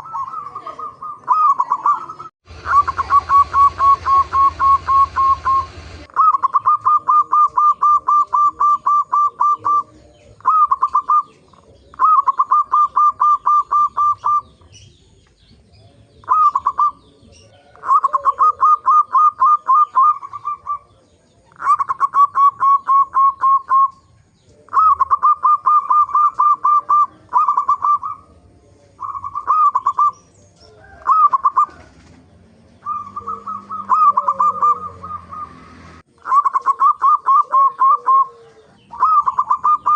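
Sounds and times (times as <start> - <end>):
dove staccato cooing: 0.0 - 39.9.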